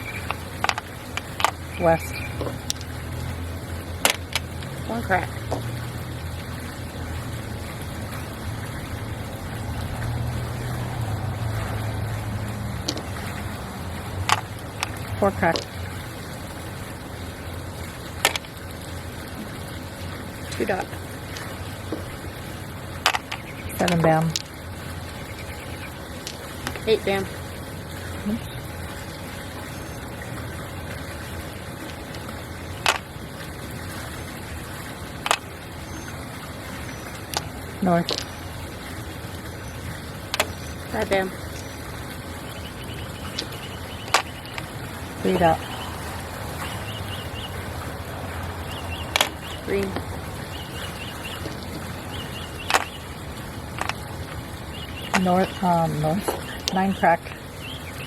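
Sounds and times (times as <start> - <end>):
low background rumble: 0.0 - 58.0
low hum: 0.0 - 58.0.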